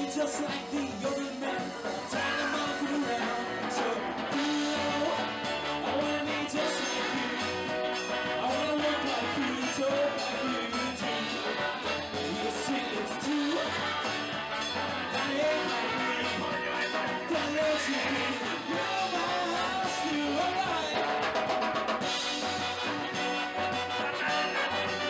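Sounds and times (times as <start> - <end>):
swing band playing: 0.0 - 25.0.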